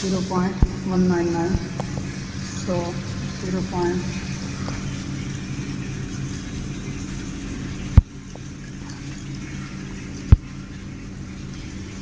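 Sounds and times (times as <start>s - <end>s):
electric pump humming: 0.0s - 12.0s.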